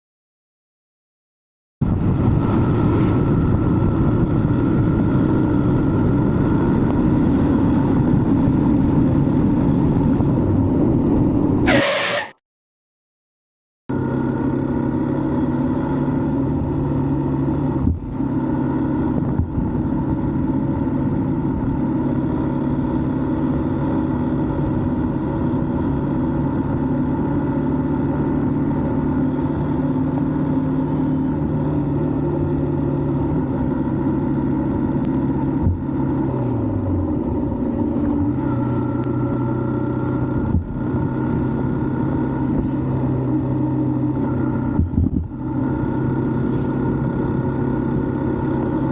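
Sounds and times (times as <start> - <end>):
motorcycle engine cruising: 1.8 - 12.3, 13.9 - 48.9.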